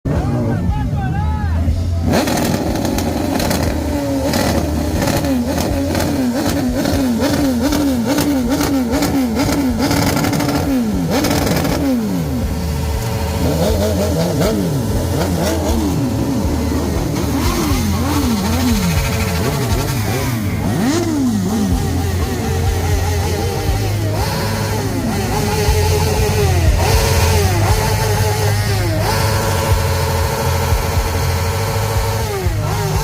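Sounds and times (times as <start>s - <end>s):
motorcycle engine revving: 1.7s - 33.0s.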